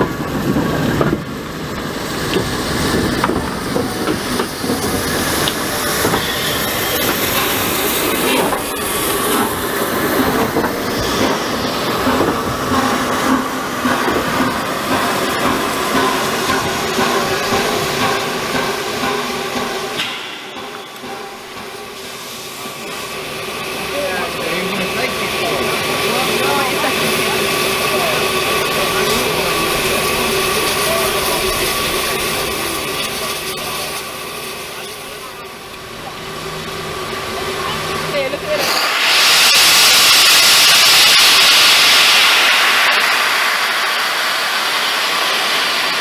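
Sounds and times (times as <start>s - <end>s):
steam locomotive hissing steam: 0.0s - 46.0s.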